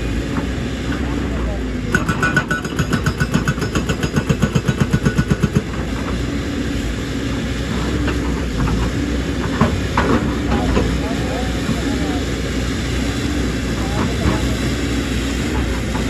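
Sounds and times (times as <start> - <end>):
hydraulic rock breaker hammering: 0.0 - 6.7, 7.6 - 12.5, 13.6 - 16.0
diesel engine running: 0.0 - 16.0.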